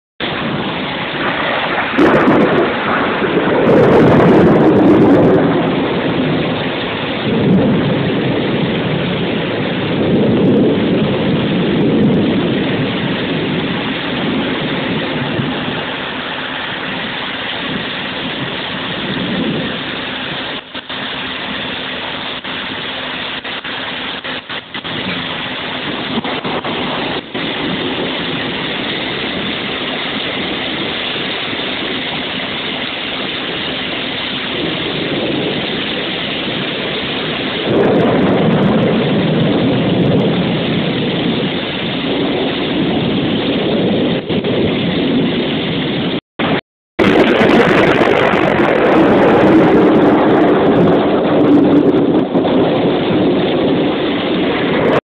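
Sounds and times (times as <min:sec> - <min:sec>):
heavy rain: 0:00.2 - 0:55.0
low rumbling: 0:00.2 - 0:55.0.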